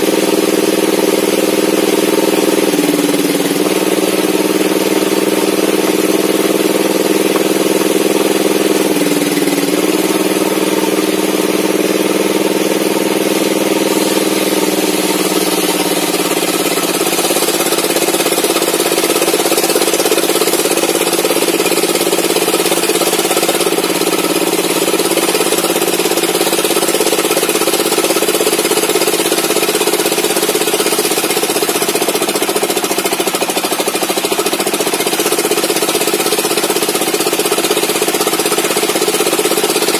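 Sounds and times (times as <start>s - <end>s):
table saw cutting wood: 0.0s - 39.9s.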